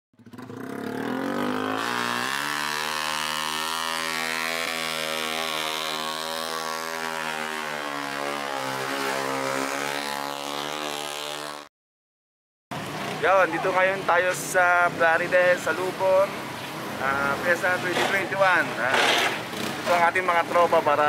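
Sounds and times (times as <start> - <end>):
motorcycle engine revving: 0.2 - 11.7, 12.7 - 21.0.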